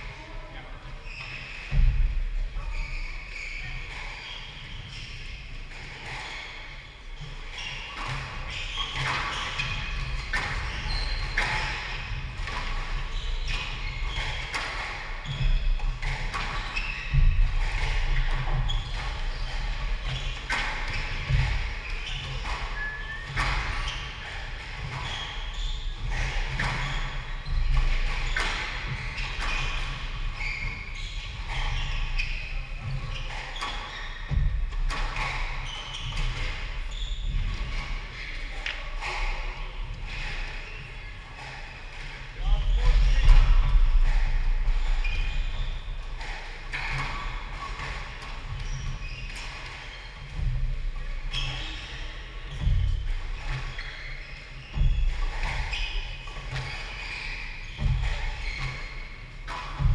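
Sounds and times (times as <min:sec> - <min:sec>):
shoes squeaking on wooden floor: 0:00.1 - 0:59.9
squash ball smacking rackets and walls: 0:03.6 - 0:59.9.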